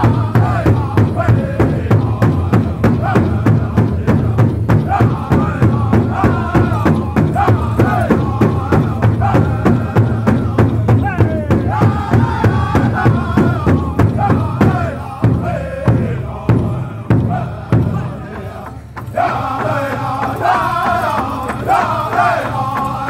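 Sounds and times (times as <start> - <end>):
large hide drum beating: 0.0 - 23.0
many voices singing together: 0.0 - 23.0.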